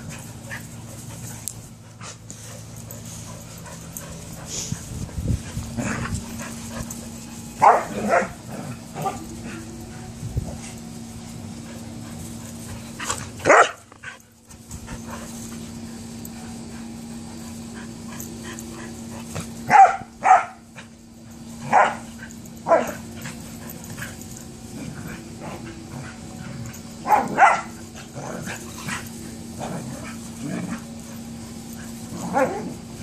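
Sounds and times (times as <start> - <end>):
dogs play barking: 0.0 - 33.0.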